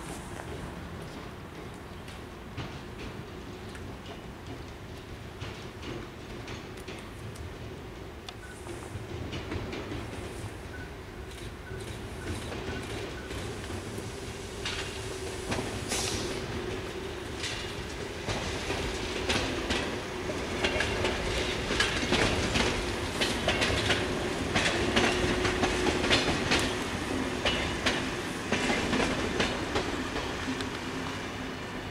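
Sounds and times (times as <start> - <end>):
train running hum: 0.0 - 31.9
train wheels clacking over rail joints: 0.4 - 31.1.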